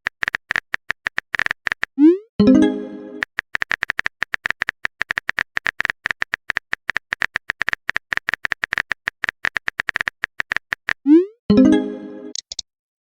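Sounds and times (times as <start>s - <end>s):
keyboard typing clicks: 0.0s - 11.2s, 12.3s - 12.6s.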